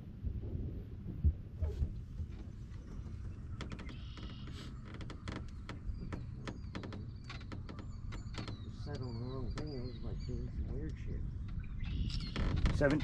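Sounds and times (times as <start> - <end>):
steady low rumble: 0.0 - 4.0, 5.0 - 13.0
sharp clicks and light knocks: 1.7 - 10.0, 10.7 - 13.0.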